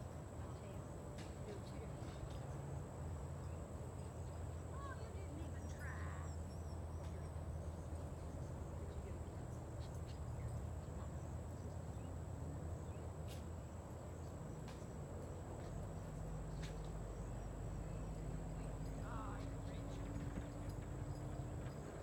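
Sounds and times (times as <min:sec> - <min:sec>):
low hum and rumble: 0:00.0 - 0:22.0.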